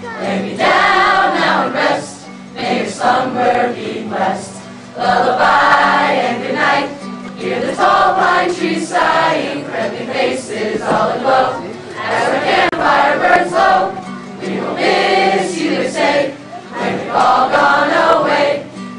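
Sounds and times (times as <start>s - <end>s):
group of voices singing: 0.0s - 18.9s
strummed acoustic guitar: 0.0s - 18.9s.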